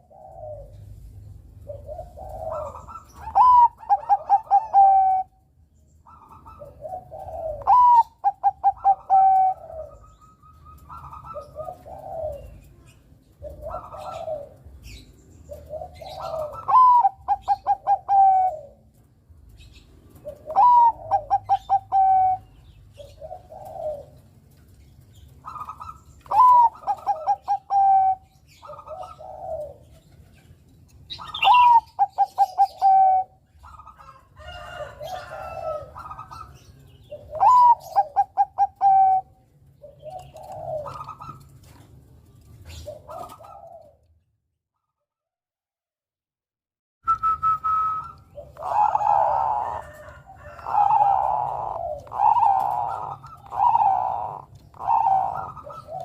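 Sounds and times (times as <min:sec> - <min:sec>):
soft low dove coos: 0:00.0 - 0:05.4, 0:06.2 - 0:19.0, 0:20.1 - 0:24.6, 0:25.5 - 0:30.4, 0:31.4 - 0:44.3, 0:47.1 - 0:56.0
dove singing: 0:00.0 - 0:44.2, 0:47.1 - 0:56.0.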